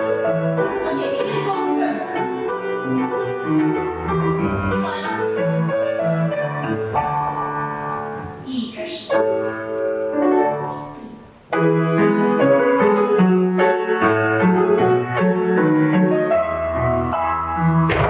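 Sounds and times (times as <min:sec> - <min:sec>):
piano playing chords and melody: 0:00.0 - 0:18.0.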